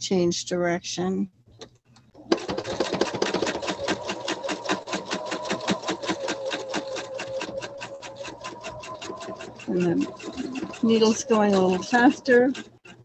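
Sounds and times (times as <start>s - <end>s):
sewing machine motor hum: 2.2s - 13.0s.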